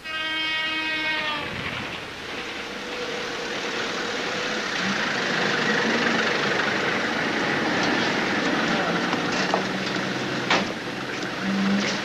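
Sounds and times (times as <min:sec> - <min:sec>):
taxi engine running: 0:01.5 - 0:12.0.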